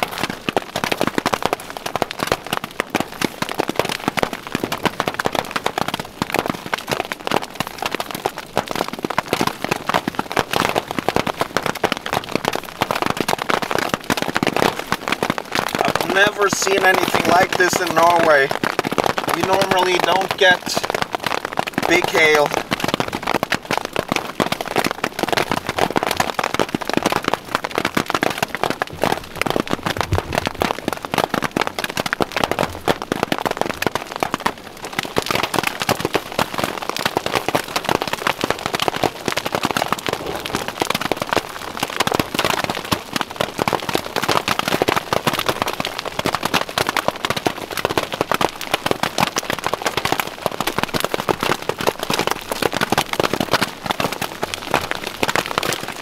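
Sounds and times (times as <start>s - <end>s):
hailstones hitting a tarp: 0.0s - 56.0s.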